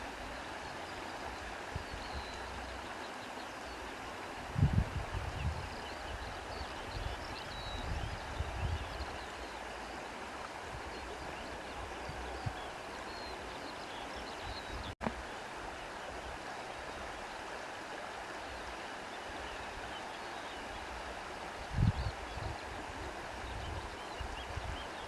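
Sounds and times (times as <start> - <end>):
stream of water flowing: 0.0 - 25.0.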